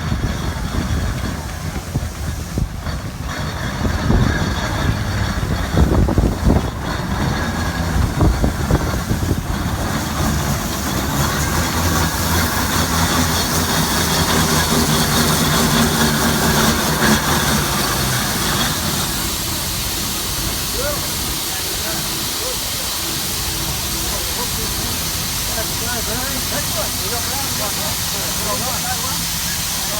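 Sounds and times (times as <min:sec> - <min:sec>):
heavy vehicle engine drone: 0:00.0 - 0:29.9.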